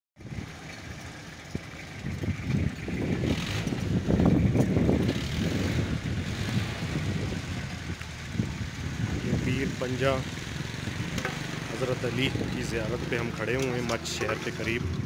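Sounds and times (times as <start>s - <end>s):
vehicle passing by: 2.9s - 15.0s.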